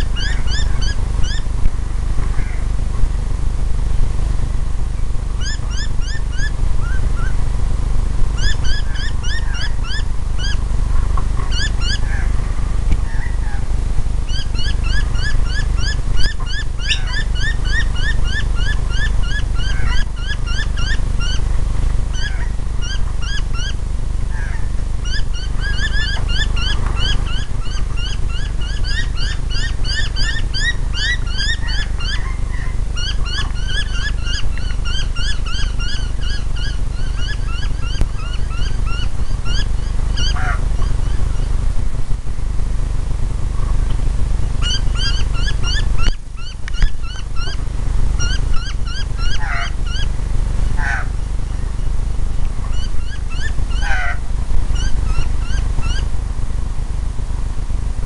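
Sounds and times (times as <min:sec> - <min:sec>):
birds calling rapidly: 0:00.0 - 0:03.0, 0:04.9 - 0:07.6, 0:08.2 - 0:41.8, 0:43.6 - 0:56.1
low rumble: 0:00.0 - 0:58.0.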